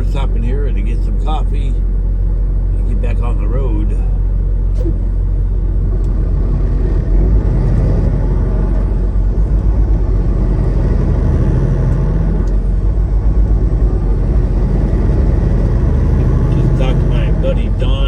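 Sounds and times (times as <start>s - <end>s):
truck diesel engine rumble: 0.0s - 18.0s.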